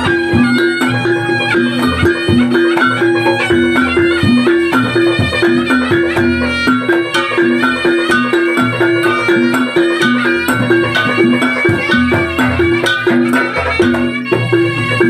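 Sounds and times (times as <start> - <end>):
alternating low drum beat: 0.0 - 15.0
sustained reedy melody: 0.0 - 15.0.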